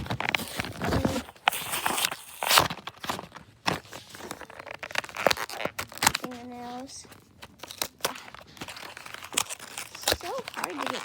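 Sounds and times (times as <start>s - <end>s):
plastic packaging crinkling and clicking: 0.0s - 11.0s.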